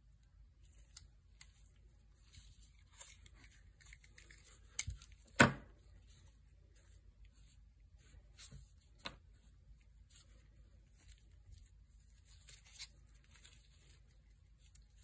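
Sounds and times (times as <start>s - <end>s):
soft rustling: 0.6s - 5.2s, 5.8s - 15.0s.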